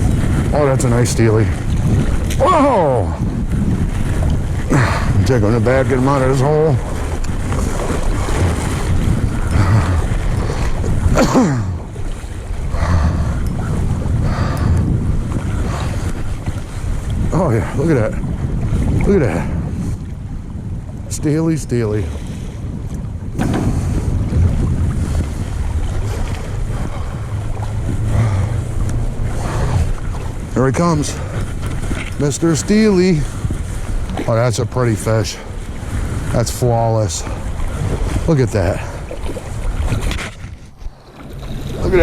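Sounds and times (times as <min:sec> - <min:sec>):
creek water rushing: 0:00.0 - 0:17.2, 0:25.1 - 0:42.0
wind rumbling on microphone: 0:00.0 - 0:42.0.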